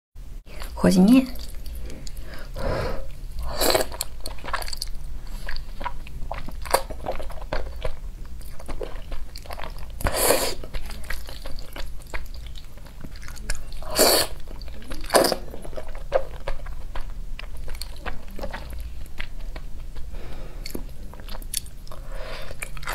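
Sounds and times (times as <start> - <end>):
wet chewing and mouth smacking: 0.6 - 2.2, 3.7 - 22.9.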